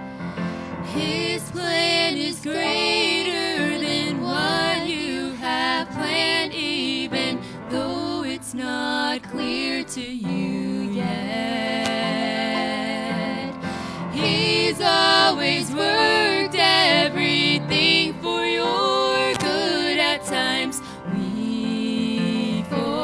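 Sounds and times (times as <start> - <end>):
grand piano: 0.0 - 23.0
woman singing gospel: 0.9 - 23.0.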